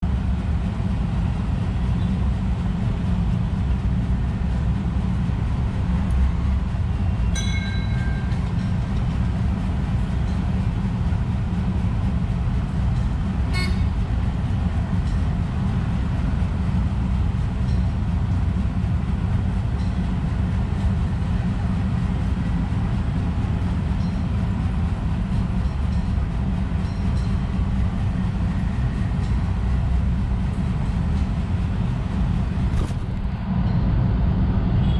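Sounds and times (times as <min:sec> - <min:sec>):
low outdoor rumble: 0:00.0 - 0:34.9.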